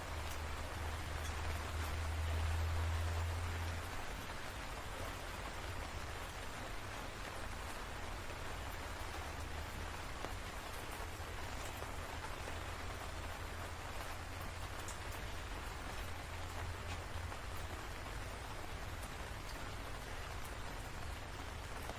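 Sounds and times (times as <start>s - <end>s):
rain drop ticks: 0.0s - 21.9s
steady rain hiss: 0.0s - 21.9s.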